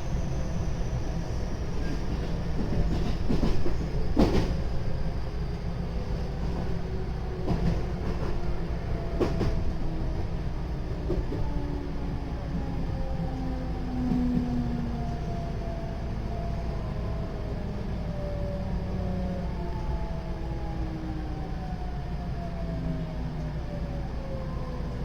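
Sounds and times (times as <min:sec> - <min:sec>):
wheels rumbling on rails: 0:00.0 - 0:25.0.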